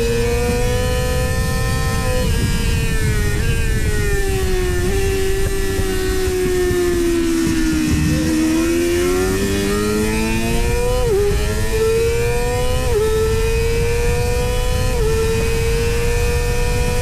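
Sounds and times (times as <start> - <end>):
heavy wind noise: 0.0 - 17.0
motorcycle engine accelerating: 0.0 - 17.0.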